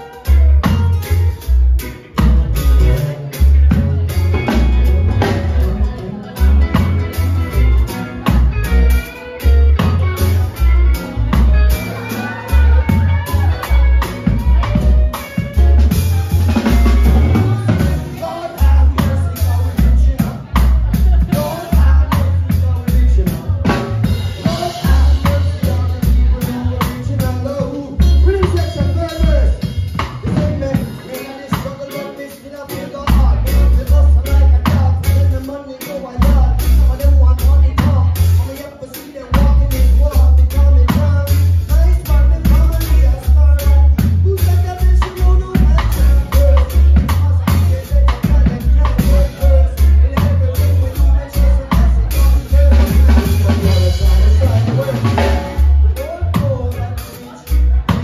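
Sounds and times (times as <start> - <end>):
live band playing: 0.0 - 58.0
person singing: 0.0 - 58.0
punchy bass guitar notes: 0.0 - 58.0
steady drum beat: 0.0 - 58.0.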